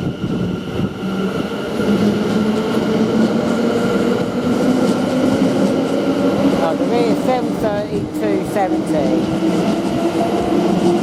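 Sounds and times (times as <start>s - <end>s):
electric train traction whine: 0.0s - 11.0s
train wheel rumble: 0.0s - 11.0s.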